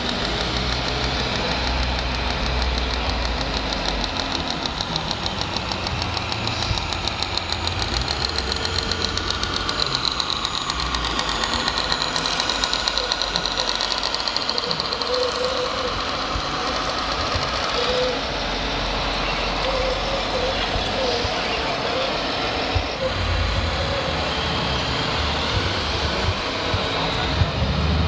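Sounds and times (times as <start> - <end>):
simulated diesel engine sound: 0.0 - 28.0.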